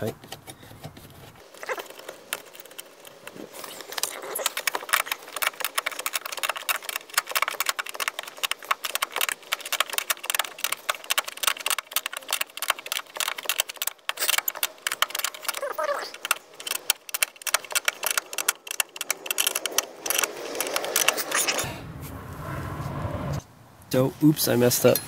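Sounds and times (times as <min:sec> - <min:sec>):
fast metallic clicking and clatter: 0:01.4 - 0:21.6.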